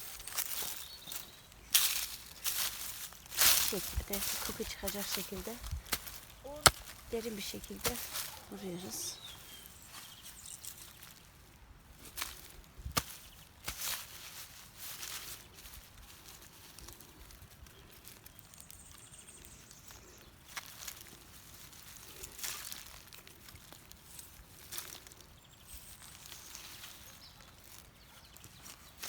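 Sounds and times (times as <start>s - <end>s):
quiet outdoor ambience: 0.0s - 29.0s.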